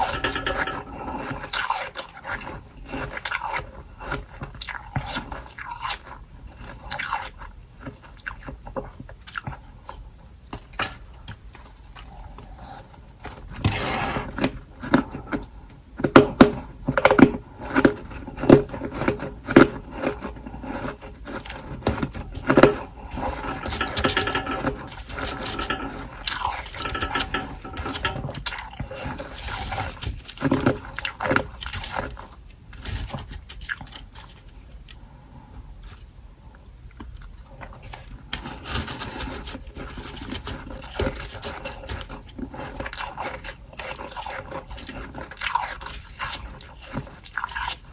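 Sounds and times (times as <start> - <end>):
crunching and chewing frost: 0.0 - 47.9.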